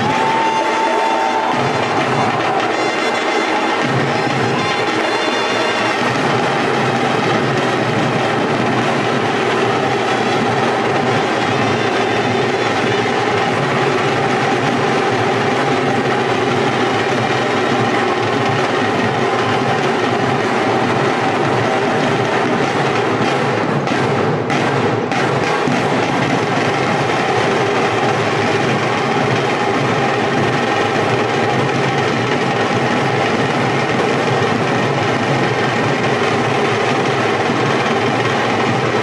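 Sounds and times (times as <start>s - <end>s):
loud drumming with sticks: 0.0s - 39.0s.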